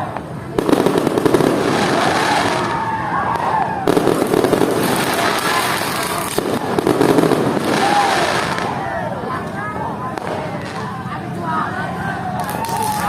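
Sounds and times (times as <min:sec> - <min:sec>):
fireworks and firecrackers crackling: 0:00.0 - 0:13.0.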